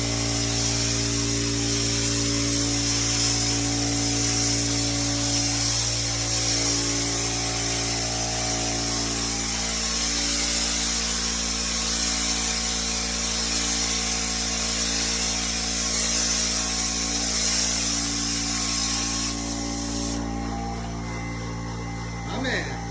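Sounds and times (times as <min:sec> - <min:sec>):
texture sprayer air hiss: 0:00.0 - 0:22.9.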